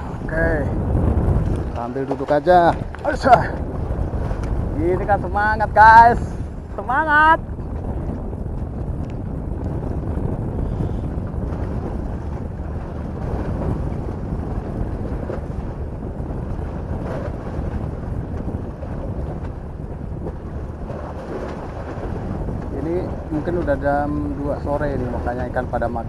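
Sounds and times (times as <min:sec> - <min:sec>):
sea waves against rocks: 0:00.0 - 0:26.0
wind buffeting microphone: 0:00.0 - 0:26.0.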